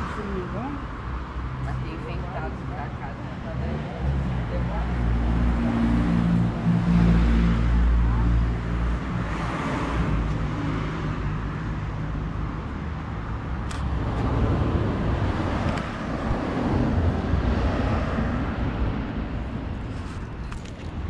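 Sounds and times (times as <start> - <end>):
car passing: 0.0 - 20.8.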